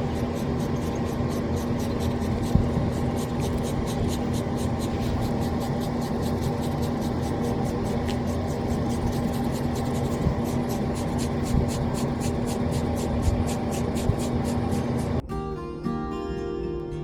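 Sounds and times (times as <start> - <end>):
fast even ticking: 0.0 - 15.2
machine hum: 0.0 - 15.4.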